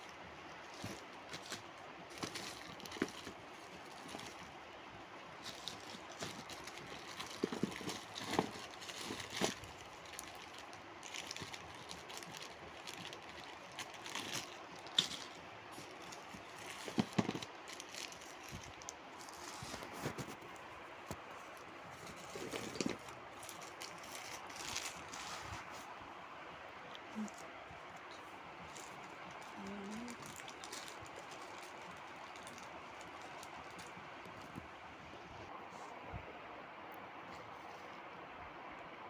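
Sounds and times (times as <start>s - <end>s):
parcel being unpacked by hand: 0.1s - 26.0s, 26.9s - 34.7s.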